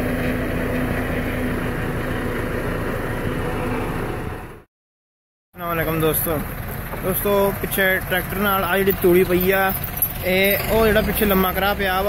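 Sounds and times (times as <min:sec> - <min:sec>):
tractor engine running: 0:00.0 - 0:04.6, 0:05.6 - 0:12.0.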